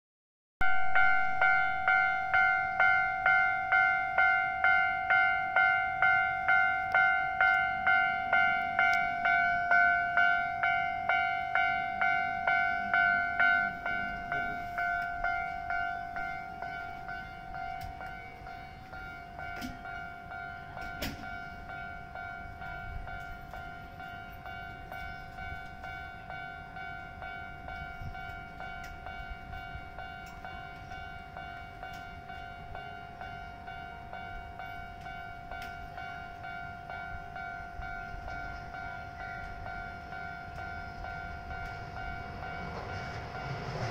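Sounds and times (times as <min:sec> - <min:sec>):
level crossing warning bell: 0:00.6 - 0:43.9.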